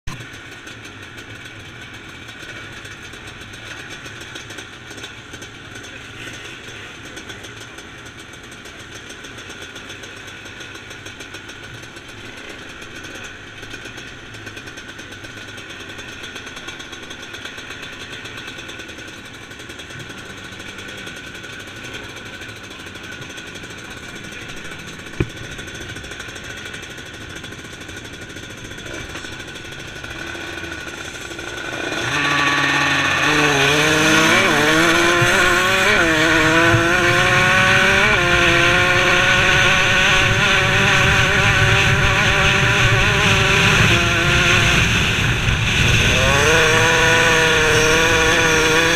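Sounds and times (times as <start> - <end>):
motocross bike revving and accelerating: 0.1 - 48.9
motocross bikes idling: 0.1 - 48.9.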